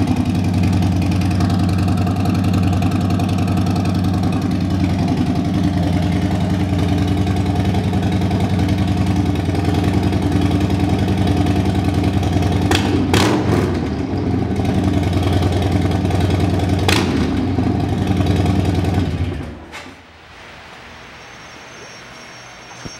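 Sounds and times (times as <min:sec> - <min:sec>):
motorcycle engine idling: 0:00.0 - 0:19.6
exhaust cracks: 0:00.0 - 0:20.0.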